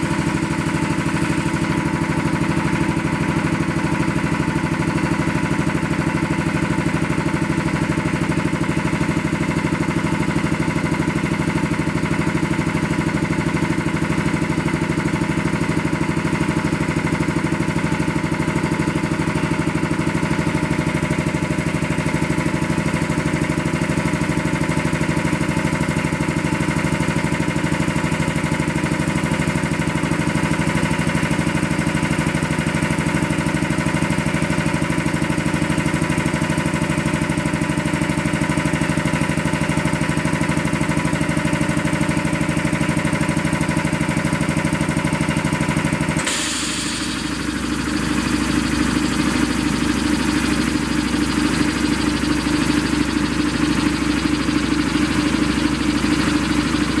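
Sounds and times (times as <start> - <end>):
air compressor running: 0.0 - 57.0.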